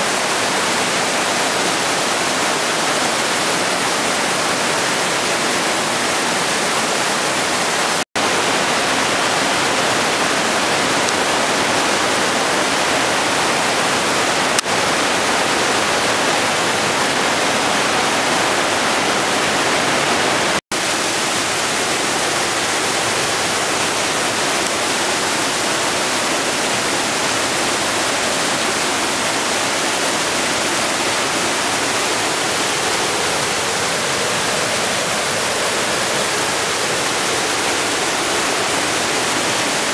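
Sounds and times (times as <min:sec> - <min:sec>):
mountain stream roaring: 0:00.0 - 0:39.9.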